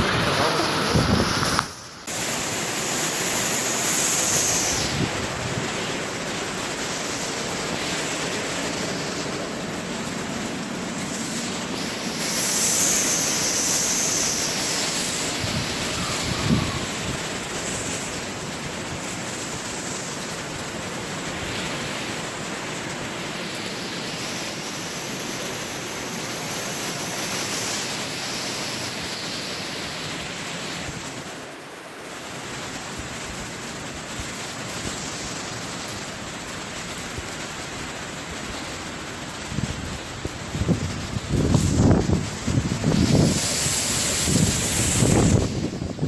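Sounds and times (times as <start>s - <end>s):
driving rain: 0.0s - 46.0s
strong wind: 0.0s - 46.0s.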